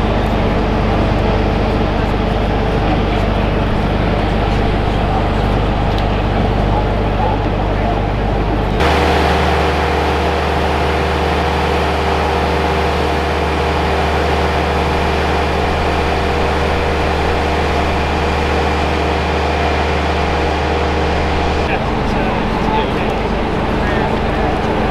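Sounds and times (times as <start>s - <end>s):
machinery drone with steady tones: 0.0s - 24.9s.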